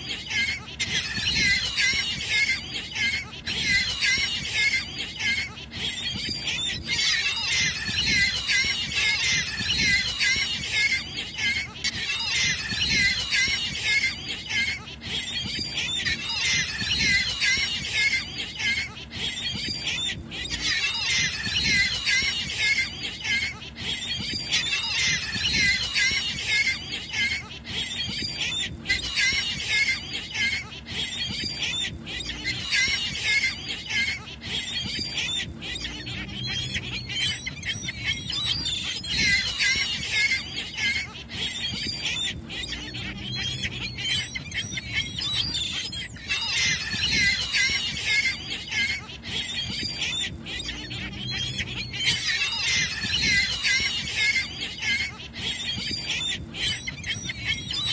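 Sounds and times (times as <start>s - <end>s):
gulls calling: 0.0s - 57.9s.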